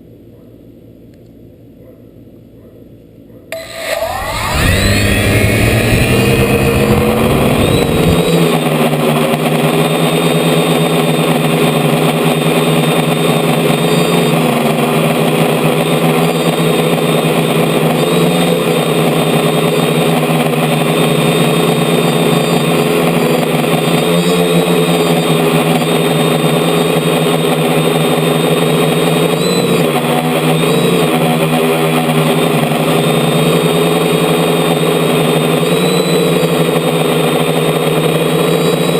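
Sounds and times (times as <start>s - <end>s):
quadcopter motors whining: 3.5s - 38.9s.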